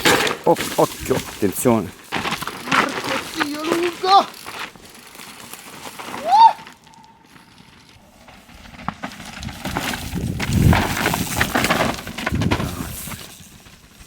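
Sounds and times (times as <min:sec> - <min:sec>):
mountain bike clattering over rocks: 0:00.0 - 0:14.0.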